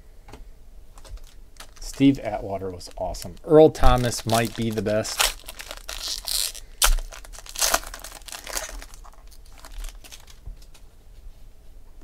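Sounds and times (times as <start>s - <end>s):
foil wrapper crinkling and tearing: 1.0s - 10.7s.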